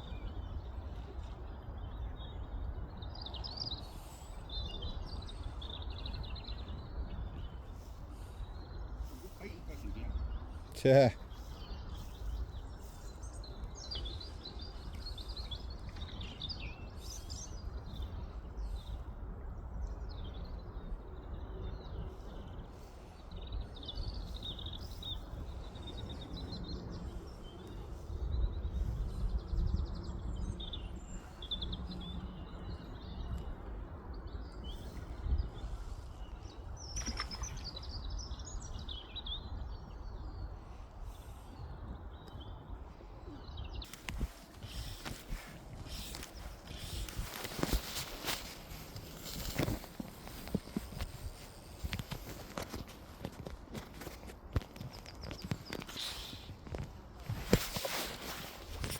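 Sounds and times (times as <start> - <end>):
songbirds chirping: 0.0 - 58.9.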